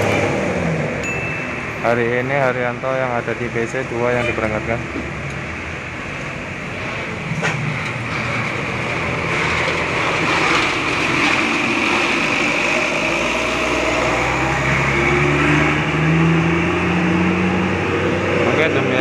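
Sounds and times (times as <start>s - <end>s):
bus diesel engine passing: 0.0s - 19.0s.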